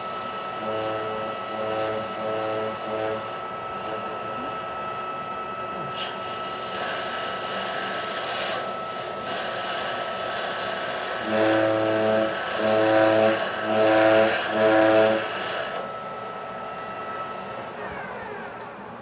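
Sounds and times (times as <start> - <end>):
cutting tool buzzing: 0.0 - 18.8
metal lathe humming and whining: 0.0 - 19.0.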